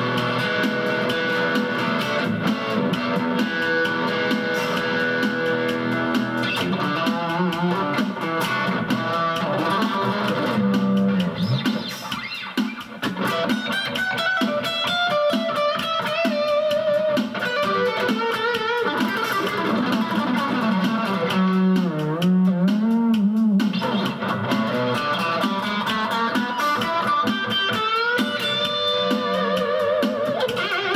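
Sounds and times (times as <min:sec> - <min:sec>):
electric guitar lead melody: 0:00.0 - 0:30.9.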